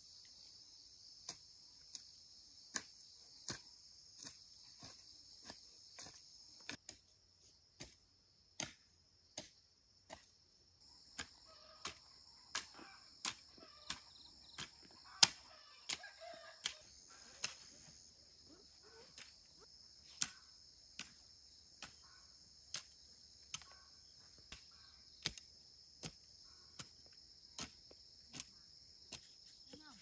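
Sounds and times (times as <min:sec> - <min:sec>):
insects chorus: 0:00.0 - 0:30.0.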